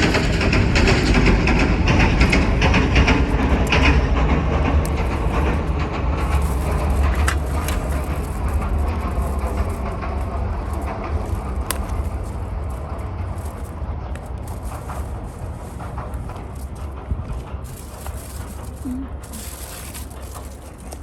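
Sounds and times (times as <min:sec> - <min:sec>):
train rumbling past: 0:00.0 - 0:21.0
train wheel clatter: 0:00.0 - 0:21.0.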